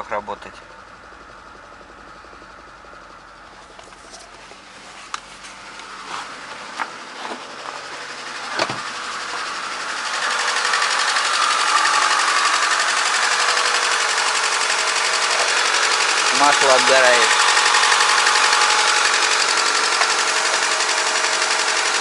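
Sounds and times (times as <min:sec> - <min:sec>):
engine running with mechanical clatter: 0:00.0 - 0:22.0.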